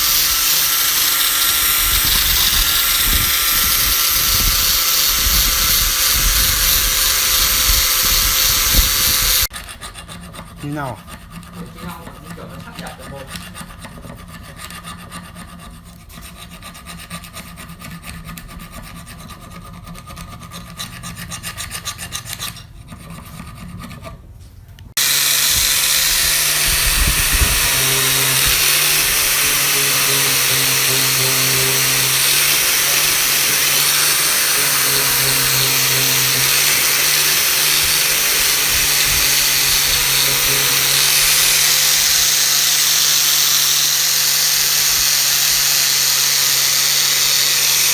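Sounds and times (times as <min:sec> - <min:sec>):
electric power tool grinding: 0:00.0 - 0:16.9, 0:24.9 - 0:47.9
hand filing scraping strokes: 0:00.0 - 0:24.4, 0:25.0 - 0:47.9.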